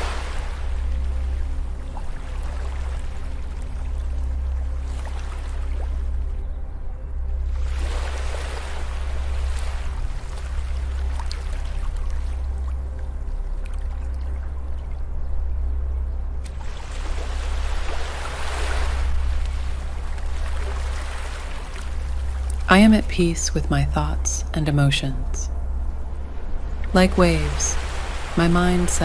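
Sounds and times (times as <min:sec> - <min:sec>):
soft background music: 0:00.0 - 0:29.0.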